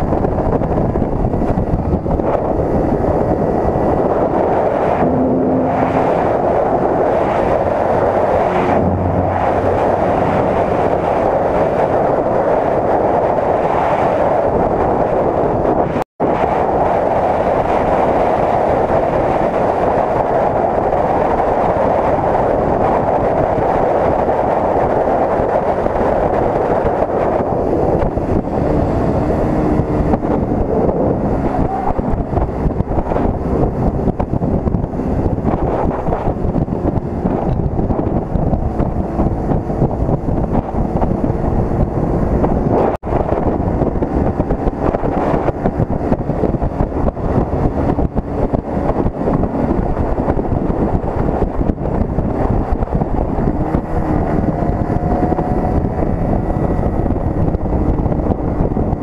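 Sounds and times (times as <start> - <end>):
motorcycle engine running: 0.0 - 12.4, 24.1 - 59.0
wind rushing over microphone: 0.0 - 59.0.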